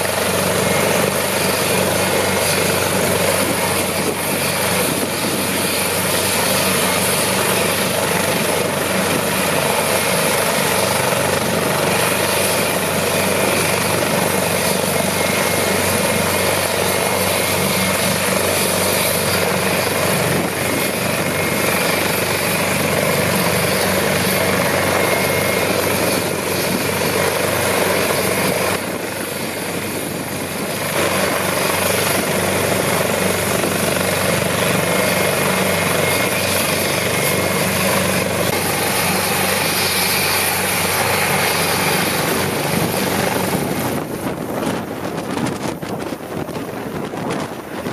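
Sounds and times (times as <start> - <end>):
helicopter rotor noise: 0.0 - 47.9
turbine engine whine: 0.0 - 47.9.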